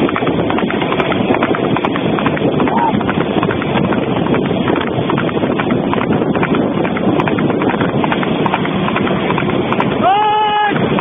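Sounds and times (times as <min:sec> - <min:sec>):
horse hooves clip-clopping on asphalt: 0:00.0 - 0:11.0
steady rush of noise: 0:00.0 - 0:11.0.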